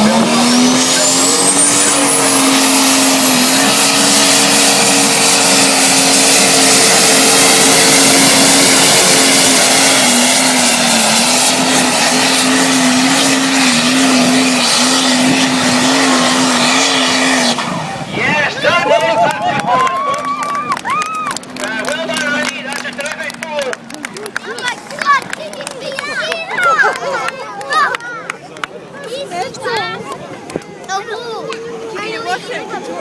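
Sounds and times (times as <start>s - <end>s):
tractor engine under heavy load: 0.0s - 27.6s.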